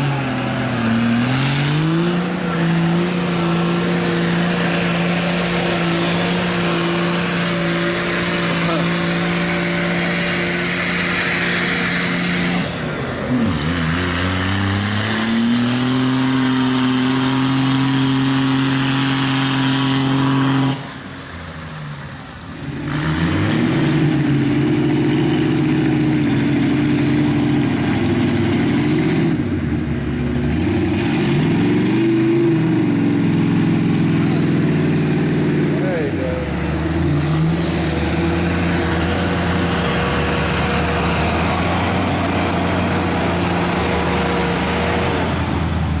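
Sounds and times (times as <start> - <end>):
diesel truck engine revving: 0.0 - 46.0.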